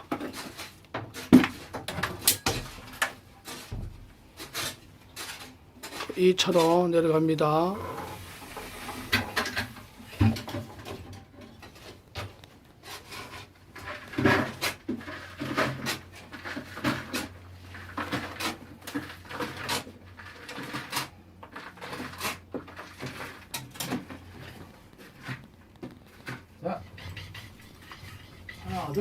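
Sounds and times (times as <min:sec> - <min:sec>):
bucket knocking and scraping: 0:00.0 - 0:06.1, 0:07.6 - 0:29.0.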